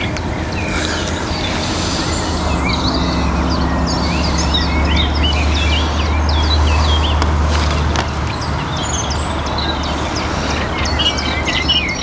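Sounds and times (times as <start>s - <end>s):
birds chirping and whistling: 0.0s - 12.0s
steady low rumble: 0.0s - 12.0s.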